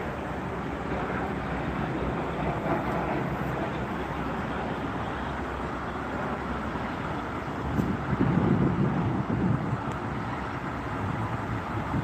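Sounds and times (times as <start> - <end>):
jet airliner passing low: 0.0 - 12.0.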